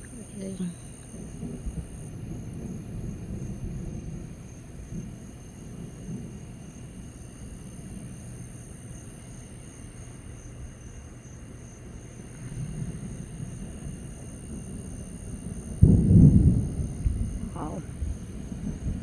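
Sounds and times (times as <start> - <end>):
distant thunder rumbling: 0.0 - 8.9, 11.9 - 19.0.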